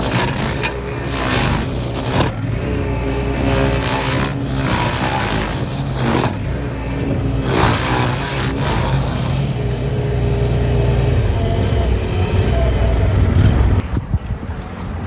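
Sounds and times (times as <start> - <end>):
petrol engine running: 0.0 - 15.0.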